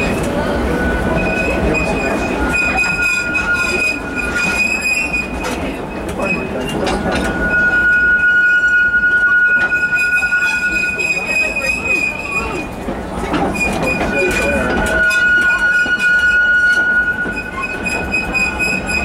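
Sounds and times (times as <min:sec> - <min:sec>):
train rumbling on track: 0:00.0 - 0:19.0
wheels squealing against rails: 0:00.0 - 0:19.0.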